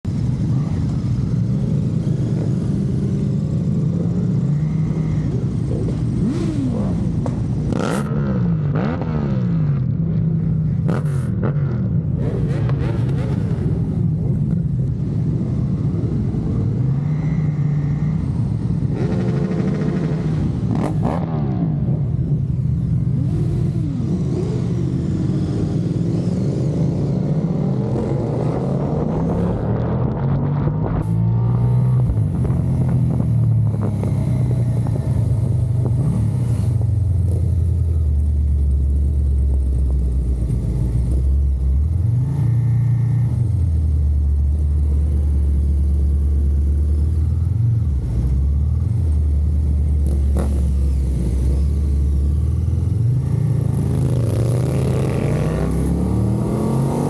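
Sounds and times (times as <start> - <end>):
vehicle engines revving: 0.1 - 57.0.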